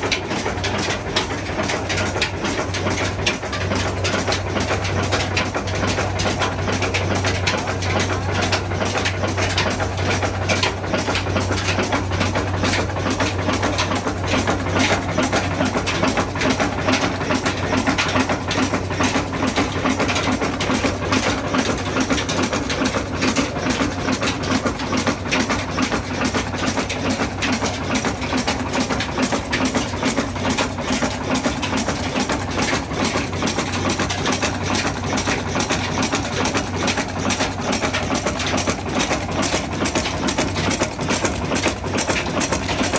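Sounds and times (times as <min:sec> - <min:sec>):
engine running with knocking beat: 0:00.0 - 0:42.9.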